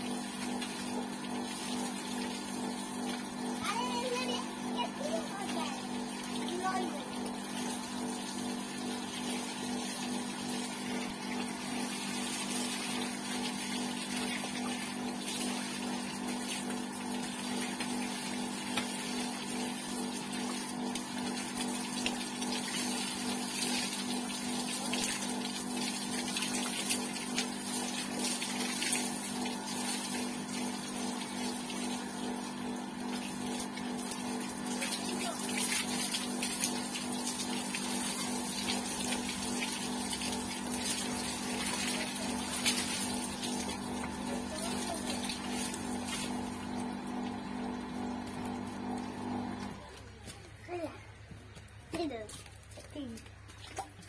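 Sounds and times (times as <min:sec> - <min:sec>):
hose water spraying and splashing: 0:00.0 - 0:51.0, 0:51.9 - 0:54.0.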